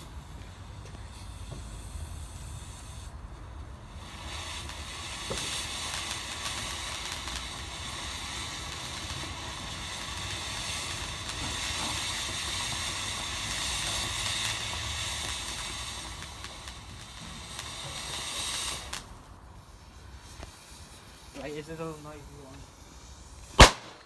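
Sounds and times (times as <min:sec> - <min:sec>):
firework fountain hissing: 0:00.0 - 0:24.0.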